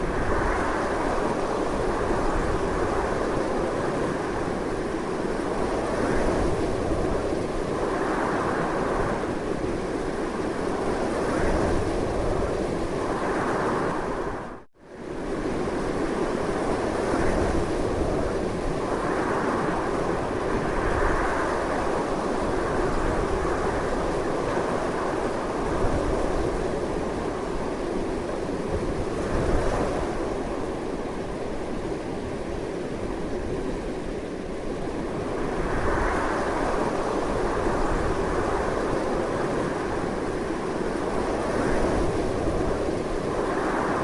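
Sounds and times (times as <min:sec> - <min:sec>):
strong gusting wind: 0:00.0 - 0:44.0.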